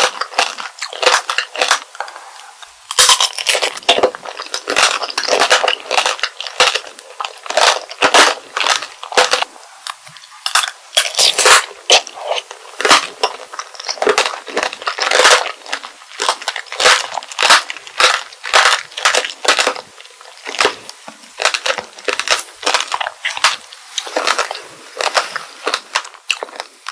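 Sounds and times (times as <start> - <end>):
sugar coating crunching in teeth: 0.0 - 26.9.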